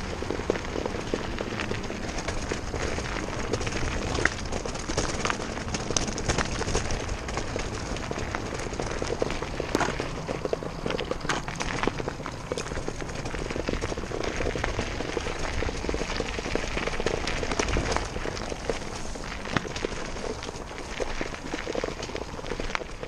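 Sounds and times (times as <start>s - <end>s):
bike rattling and clattering: 0.0s - 23.0s
noisy rush: 0.0s - 23.0s
tyres crunching over stones: 0.0s - 23.0s.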